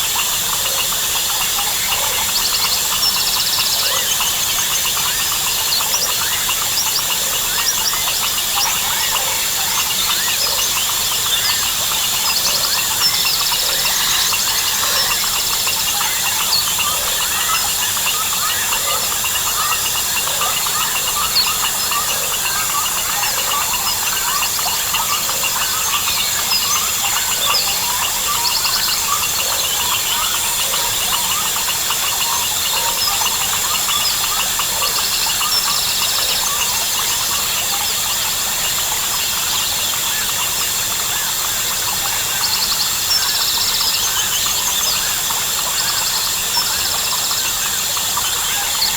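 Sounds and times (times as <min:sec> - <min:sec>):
frogs and birds chirping: 0:00.0 - 0:48.9
high insect drone: 0:00.0 - 0:48.9.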